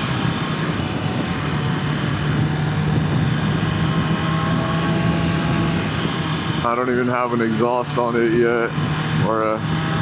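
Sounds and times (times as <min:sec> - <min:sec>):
motorcycle engine running: 0:00.0 - 0:10.0
wind rush over helmet: 0:00.0 - 0:10.0.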